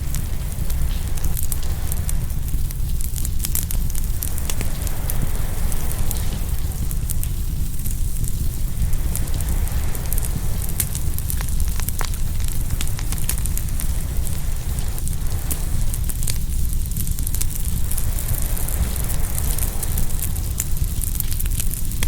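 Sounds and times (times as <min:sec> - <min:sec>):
low rumble: 0:00.0 - 0:22.0
wood fire crackling and popping: 0:00.0 - 0:22.0.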